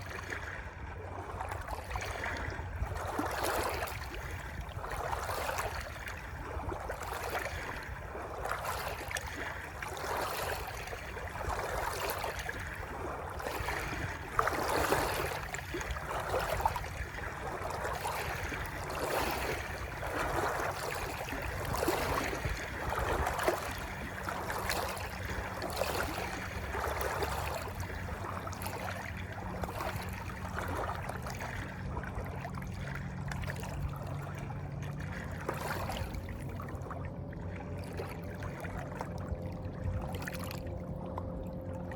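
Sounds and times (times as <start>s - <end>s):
water splashing and gurgling: 0.0s - 41.9s.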